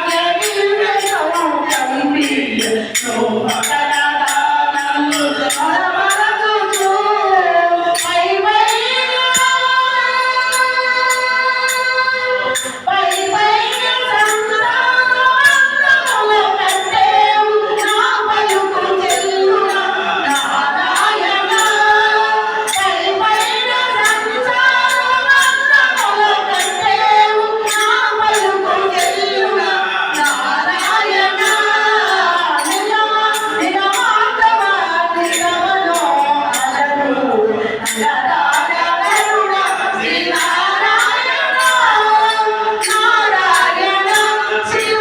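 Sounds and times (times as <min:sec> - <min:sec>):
group singing devotional song: 0:00.0 - 0:45.0
jingling hand percussion: 0:00.0 - 0:45.0.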